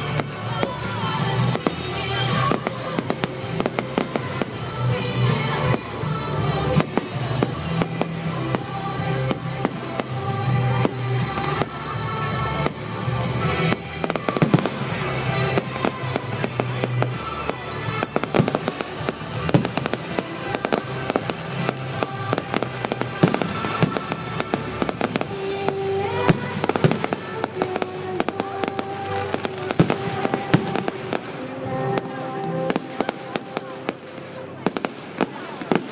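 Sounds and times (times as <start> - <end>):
fireworks bangs and crackles: 0.0 - 35.9
music: 0.0 - 35.9.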